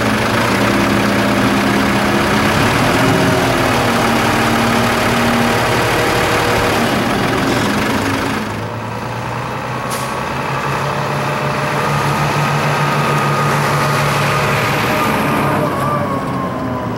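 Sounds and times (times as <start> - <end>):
truck diesel engine running: 0.0 - 16.9.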